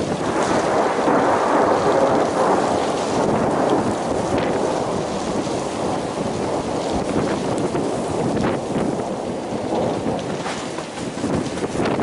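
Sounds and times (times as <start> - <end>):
soft hail pelting down: 0.0 - 12.0.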